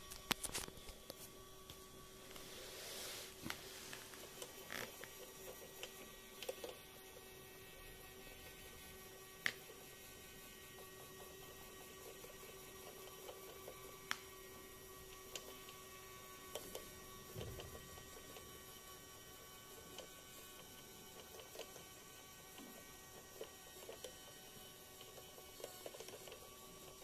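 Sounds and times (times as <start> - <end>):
small motor humming: 0.0 - 27.0.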